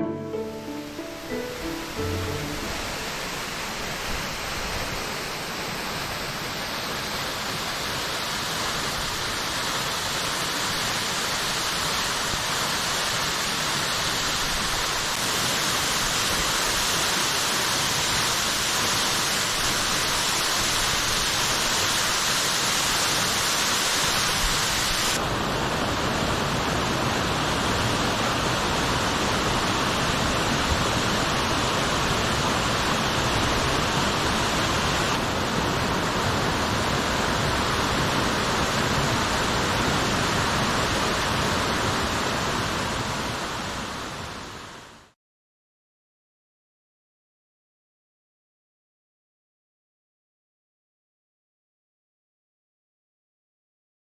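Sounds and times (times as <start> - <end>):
waterfall rushing: 0.0 - 44.7.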